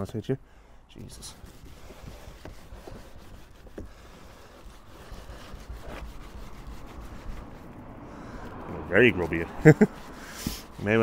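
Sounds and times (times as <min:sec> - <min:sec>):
brush scrubbing rubber seal: 0:00.9 - 0:11.0.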